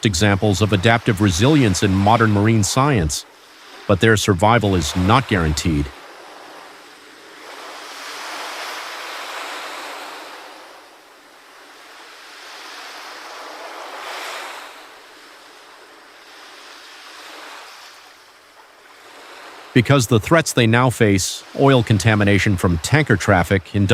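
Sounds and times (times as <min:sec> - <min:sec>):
ocean waves washing in: 0:00.0 - 0:23.9.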